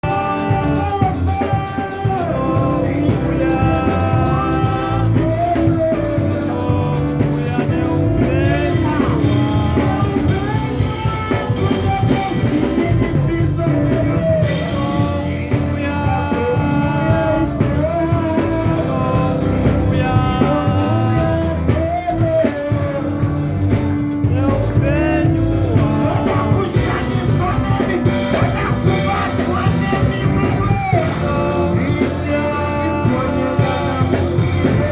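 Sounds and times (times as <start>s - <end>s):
song with vocal and band: 0.0s - 34.9s.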